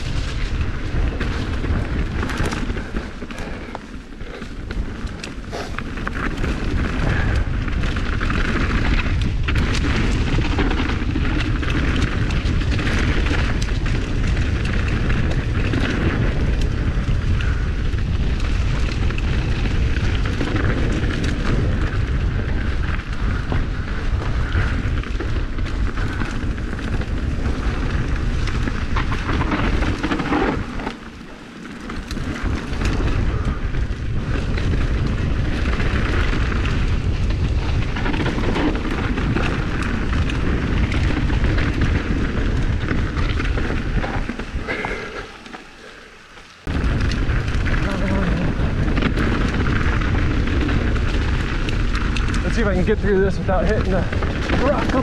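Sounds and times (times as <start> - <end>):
wind noise on microphone: 0.0 - 45.4, 46.5 - 55.0
bike clicks and rattles: 0.0 - 55.0
bike tyres on dirt: 0.0 - 55.0.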